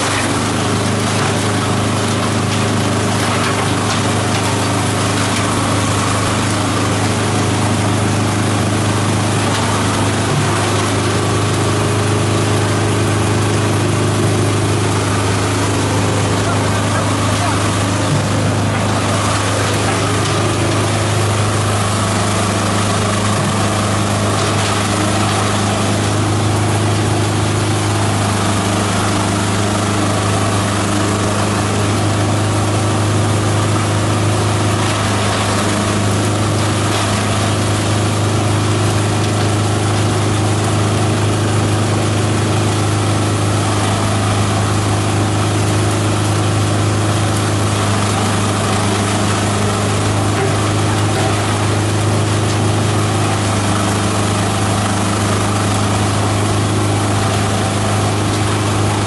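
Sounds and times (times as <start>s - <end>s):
shredder running: 0.0s - 59.0s.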